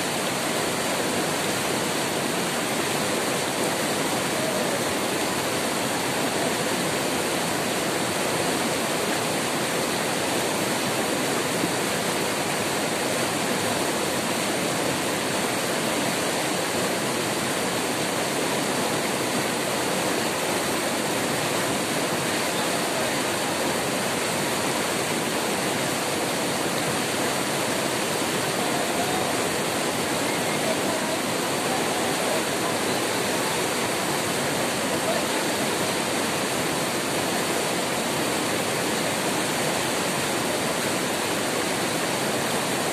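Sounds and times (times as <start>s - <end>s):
water rushing over boulders: 0.0s - 42.9s.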